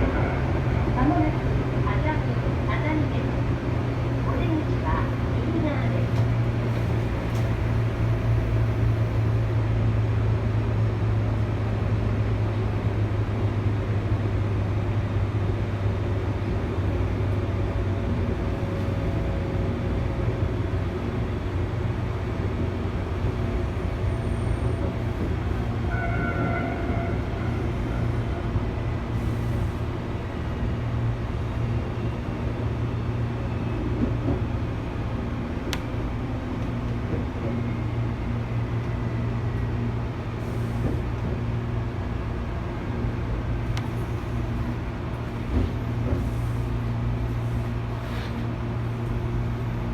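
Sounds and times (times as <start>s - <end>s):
electric train rumbling on rails: 0.0s - 49.9s.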